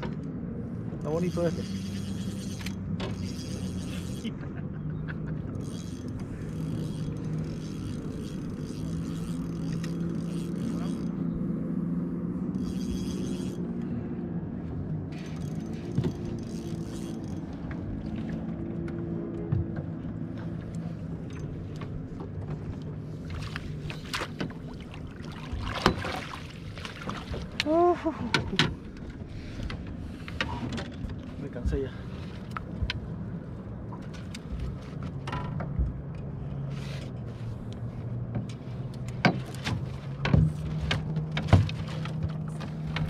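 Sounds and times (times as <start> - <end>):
knocks and clicks on boat: 0.0 - 11.6, 15.1 - 43.0
boat motor humming: 0.0 - 43.0.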